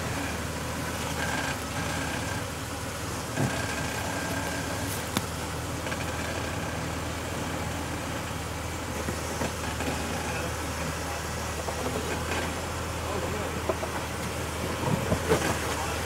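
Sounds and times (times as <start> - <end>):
car engine running at low revs: 0.0 - 16.0.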